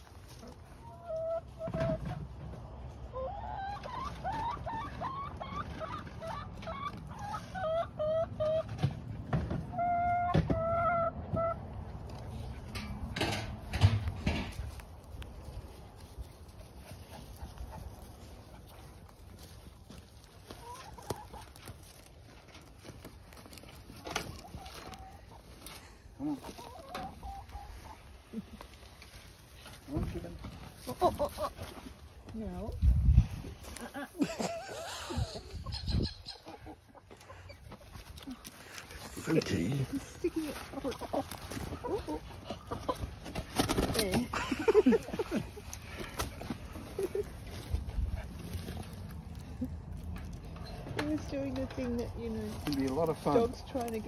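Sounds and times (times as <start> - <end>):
hens calling: 0.0 - 12.3, 14.7 - 32.2, 33.6 - 49.8.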